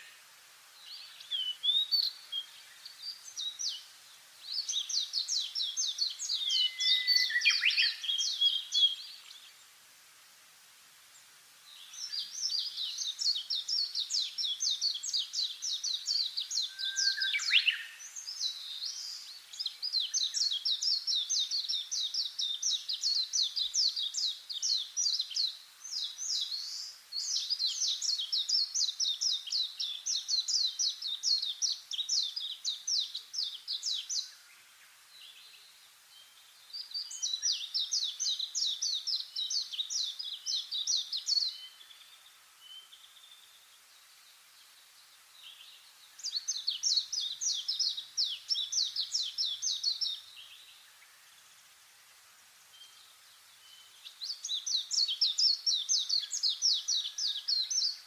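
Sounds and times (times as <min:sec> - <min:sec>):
songbird singing chattering song: 0:00.0 - 0:10.1, 0:11.0 - 0:58.0.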